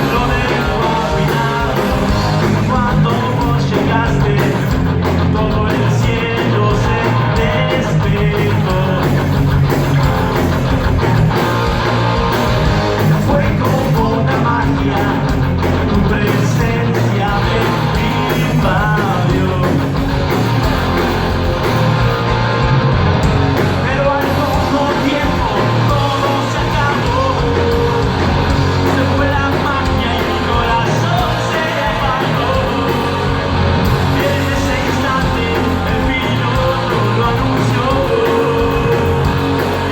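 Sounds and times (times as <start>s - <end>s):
person singing: 0.0s - 10.5s, 13.2s - 20.1s, 23.7s - 39.9s
rock band playing live: 0.0s - 39.9s.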